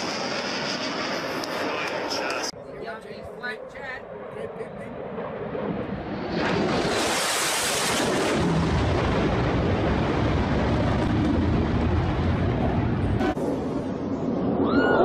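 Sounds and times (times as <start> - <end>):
fighter jet roar: 0.0 - 15.0.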